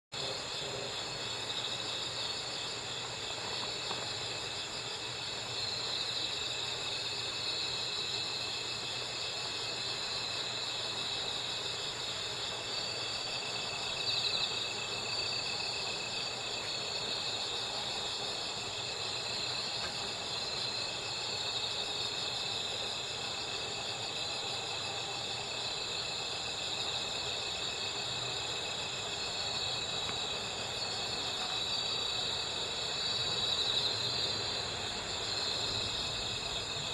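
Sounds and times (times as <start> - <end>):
crickets trilling: 0.1 - 36.9.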